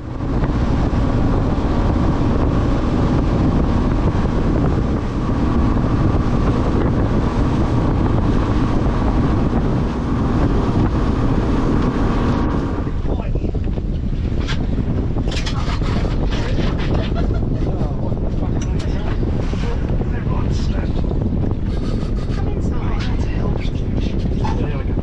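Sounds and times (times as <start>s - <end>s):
boat engine running: 0.0s - 25.0s
wind noise on microphone: 0.0s - 25.0s.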